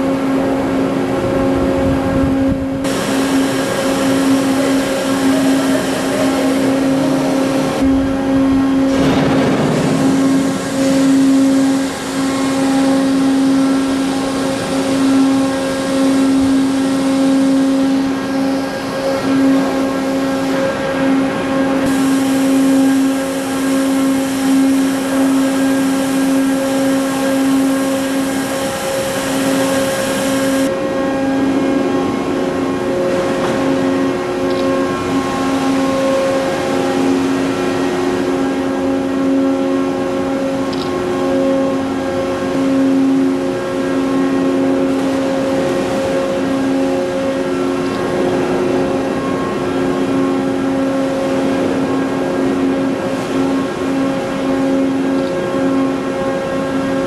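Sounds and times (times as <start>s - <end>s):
heavy machinery humming: 0.0s - 57.0s
rumbling mechanical noise: 0.0s - 57.0s.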